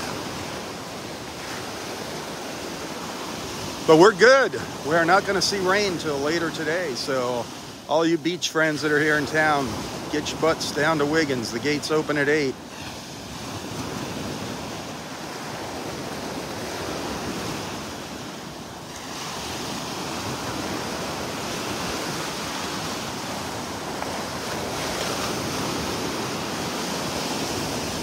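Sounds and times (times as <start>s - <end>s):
surf washing ashore: 0.0s - 28.0s.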